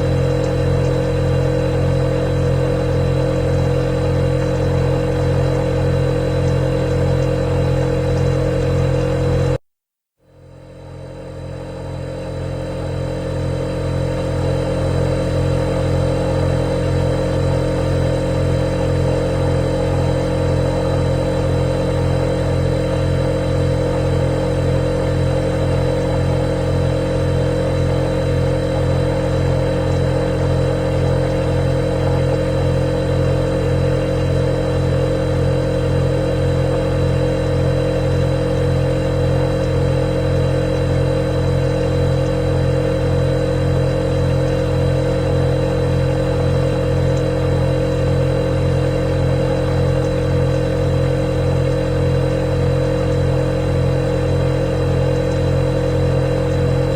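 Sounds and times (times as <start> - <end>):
refrigerator humming: 0.0 - 9.6, 10.3 - 56.9.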